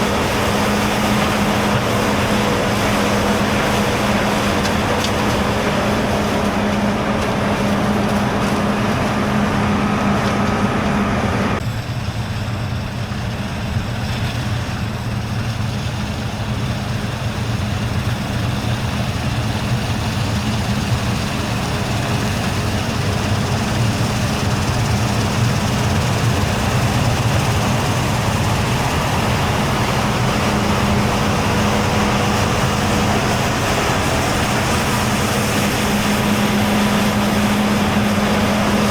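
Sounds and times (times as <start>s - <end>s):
diesel machinery droning: 0.0s - 38.9s.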